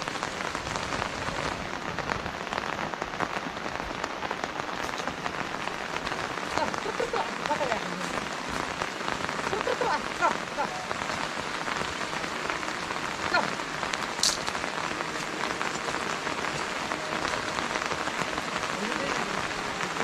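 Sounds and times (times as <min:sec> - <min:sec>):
raindrops hitting surfaces: 0:00.0 - 0:20.0
steady rain falling: 0:00.0 - 0:20.0.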